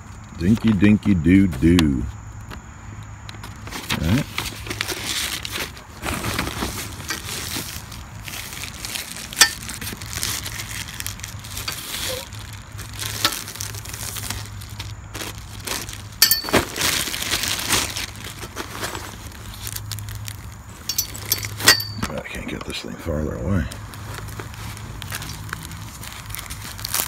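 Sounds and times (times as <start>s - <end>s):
plastic wrapping crinkling: 3.4s - 22.2s, 23.8s - 27.0s.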